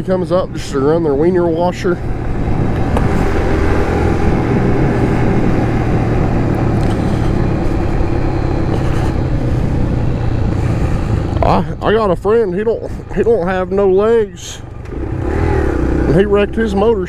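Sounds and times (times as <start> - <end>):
motorcycle engine running: 0.0 - 12.3, 13.0 - 17.0.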